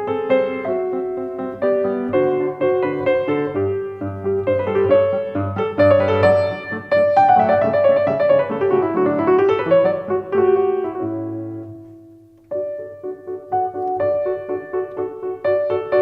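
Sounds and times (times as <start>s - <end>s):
solo piano: 0.0s - 16.0s.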